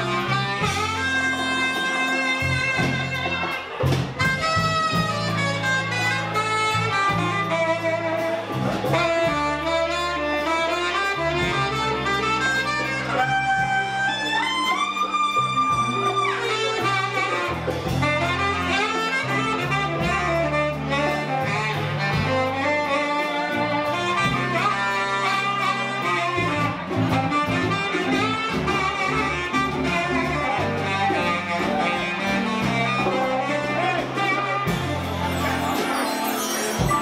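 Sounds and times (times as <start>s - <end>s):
live band with horn melody: 0.0s - 37.0s.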